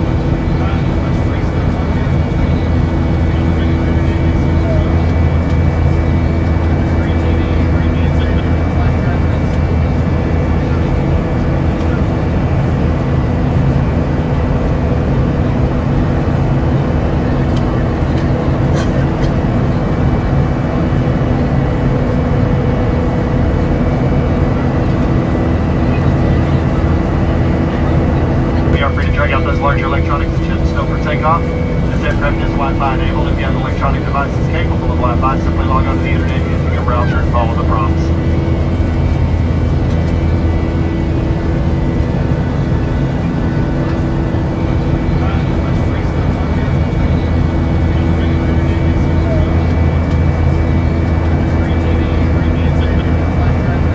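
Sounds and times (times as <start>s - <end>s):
constant hums: 0.0s - 53.9s
jet airliner drone: 0.0s - 53.9s.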